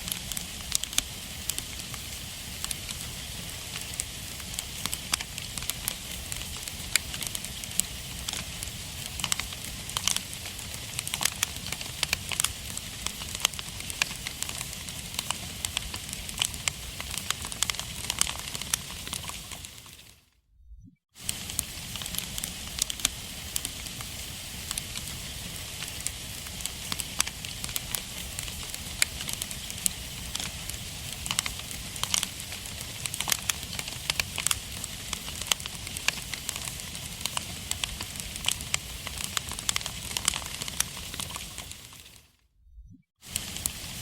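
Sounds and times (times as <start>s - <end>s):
wood fire crackling and popping: 0.0s - 20.2s, 21.2s - 42.3s, 43.2s - 44.0s.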